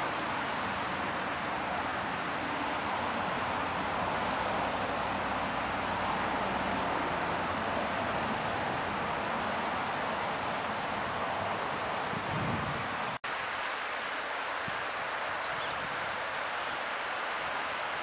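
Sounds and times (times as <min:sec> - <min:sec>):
water rushing and splashing: 0:00.0 - 0:18.0.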